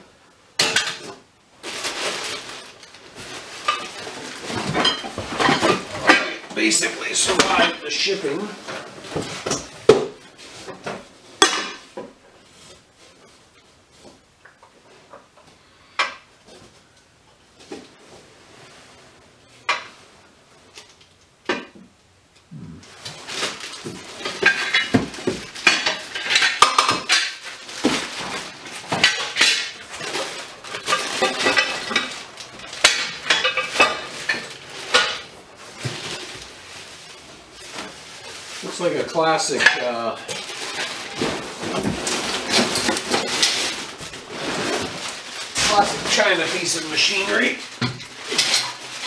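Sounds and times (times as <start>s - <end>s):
plastic wrapping rustling: 0.6s - 21.8s, 22.5s - 49.0s.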